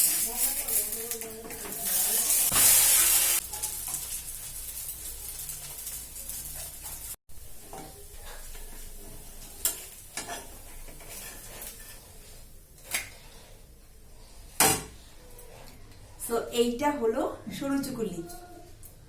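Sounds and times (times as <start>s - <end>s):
pancake sizzling on a pan: 0.0s - 15.6s
utensil scraping a pan: 0.0s - 15.7s.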